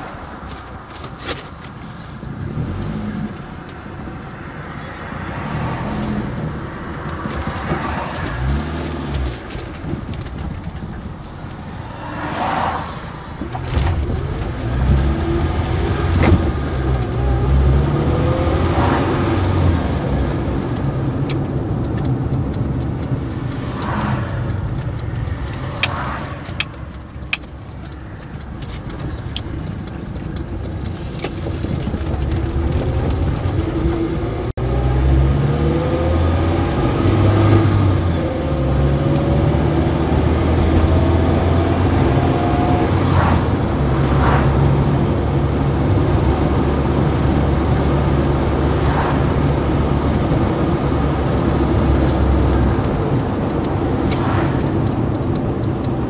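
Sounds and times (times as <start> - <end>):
vehicle engine revving: 2.3 - 29.1, 31.0 - 56.0.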